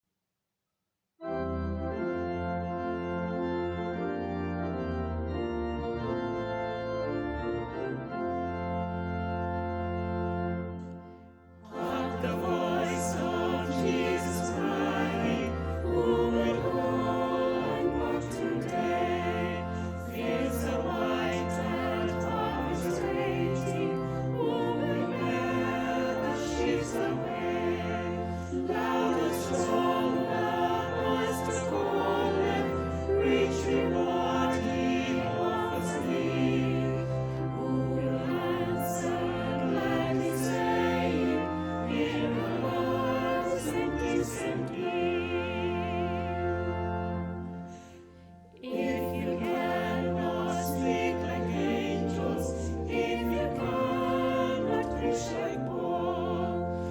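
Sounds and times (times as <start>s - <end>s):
organ sustained chords: 1.2s - 56.9s
choir singing with accompaniment: 7.0s - 56.9s.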